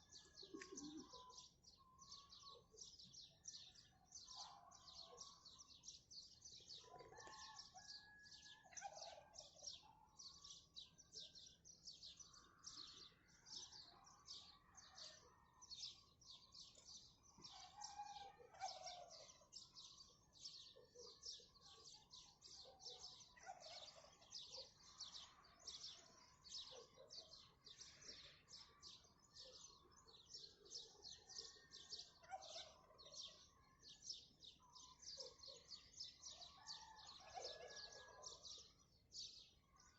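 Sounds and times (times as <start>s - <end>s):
small birds chirping rapidly: 0.0s - 39.9s.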